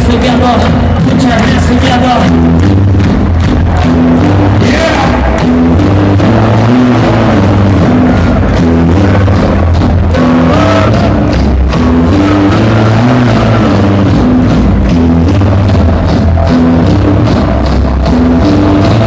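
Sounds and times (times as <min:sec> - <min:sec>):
loud hardstyle dance music: 0:00.0 - 0:19.0.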